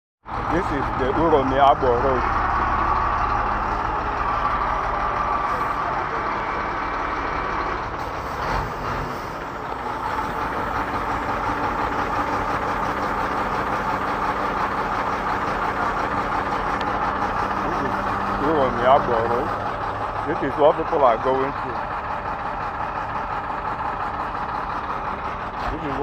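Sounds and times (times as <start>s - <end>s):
heavy vehicle engine running: 0.2s - 26.0s.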